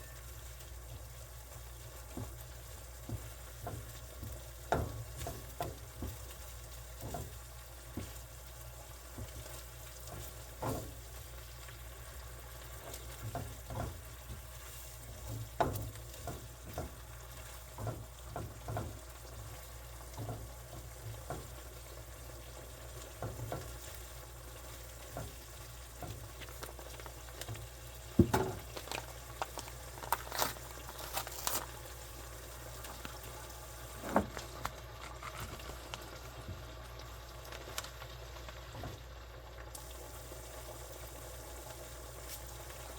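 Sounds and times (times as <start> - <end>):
food sizzling in a pan: 0.0 - 34.2, 34.8 - 42.9.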